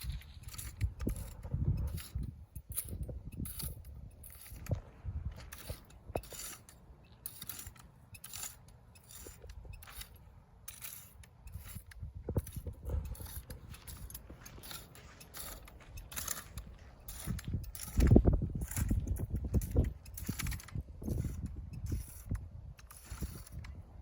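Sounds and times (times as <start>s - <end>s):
scraping on dry ground: 0.0s - 24.0s.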